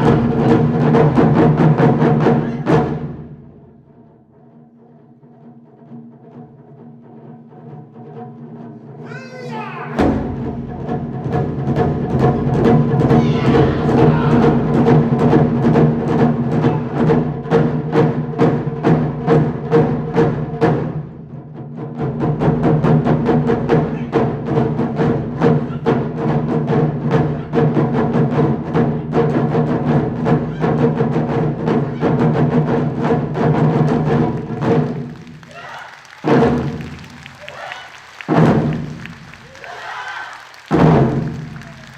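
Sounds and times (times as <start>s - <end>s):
taiko drum ensemble playing: 0.0s - 3.7s, 5.8s - 39.8s, 40.7s - 41.9s.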